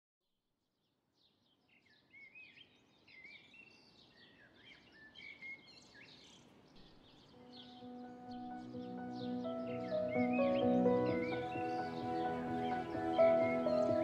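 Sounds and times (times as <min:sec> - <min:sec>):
birds chirping and whistling: 0:01.9 - 0:14.0
soft outdoor hush: 0:02.3 - 0:14.0.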